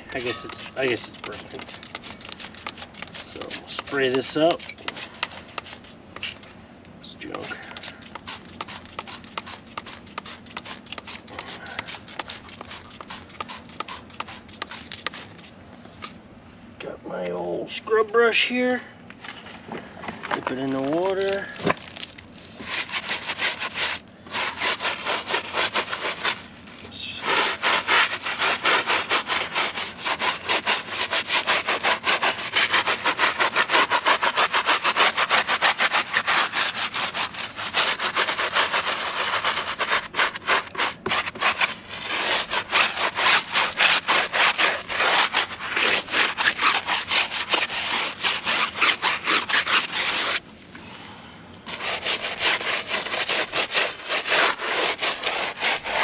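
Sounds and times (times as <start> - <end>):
wet scrub brush scrubbing tyre: 0.0 - 6.4, 7.3 - 15.5, 22.6 - 50.4, 51.7 - 56.0.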